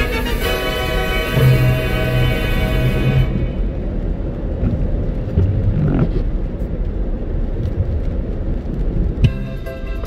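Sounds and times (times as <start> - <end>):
tyres and engine rumbling: 0.0 - 10.0.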